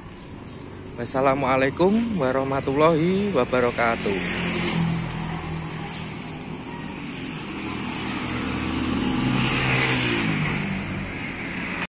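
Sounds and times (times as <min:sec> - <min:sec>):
vehicle engine passing by: 0:01.2 - 0:11.9.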